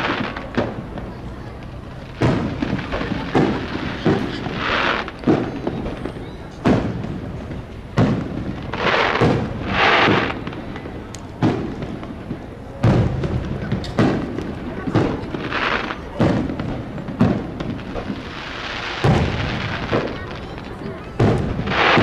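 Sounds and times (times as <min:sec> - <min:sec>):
fireworks booming: 0:00.0 - 0:22.0
fireworks hissing: 0:00.0 - 0:22.0.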